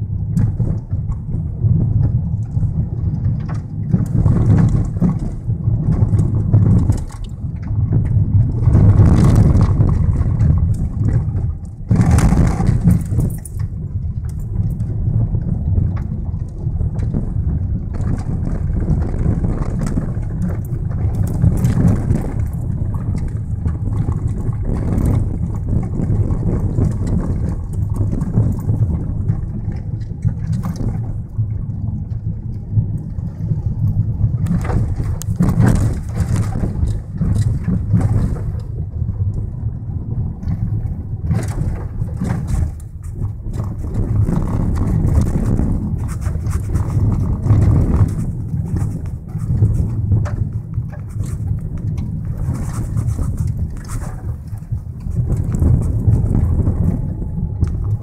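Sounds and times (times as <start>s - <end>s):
car engine and tyres rumbling: 0.0s - 58.0s
gravel crunching under tyres: 0.0s - 58.0s.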